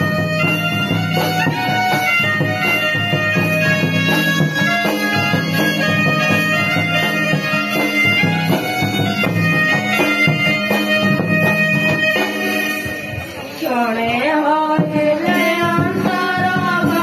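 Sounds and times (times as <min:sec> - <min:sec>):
drum beating: 0:00.0 - 0:17.0
reed pipe melody: 0:00.0 - 0:17.0.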